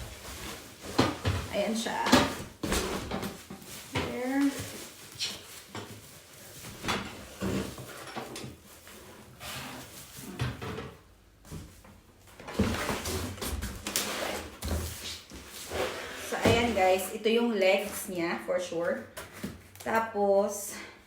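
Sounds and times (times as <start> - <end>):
cardboard and packing rustling: 0.0 - 18.2, 18.8 - 19.8.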